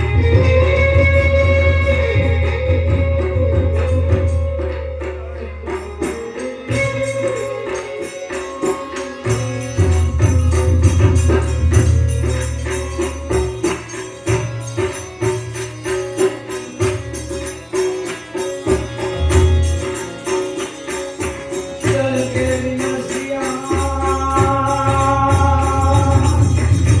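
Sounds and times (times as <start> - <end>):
held instrumental tones: 0.0 - 27.0
jingling hand percussion: 0.0 - 27.0.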